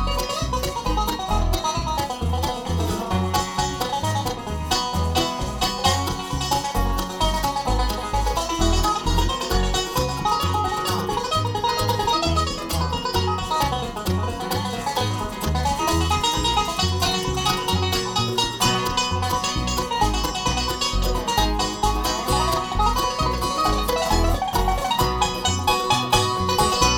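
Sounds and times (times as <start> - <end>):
banjo picking: 0.0 - 26.9
bass notes: 0.0 - 26.9
guitar: 0.0 - 26.9.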